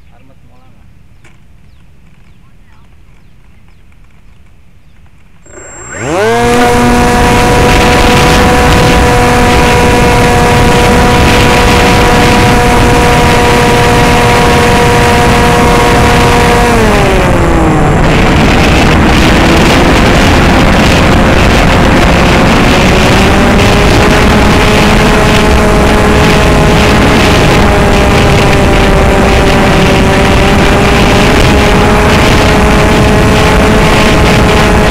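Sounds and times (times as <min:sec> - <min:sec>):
model plane motor whining: 0:05.4 - 0:34.9
wind rush: 0:05.4 - 0:34.9.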